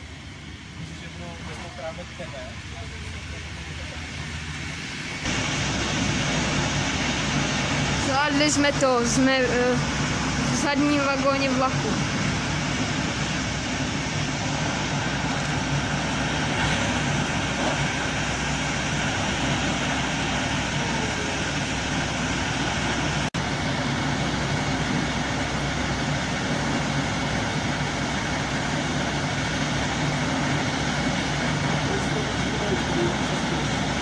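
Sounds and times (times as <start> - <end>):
train running on tracks: 0.0 - 34.0.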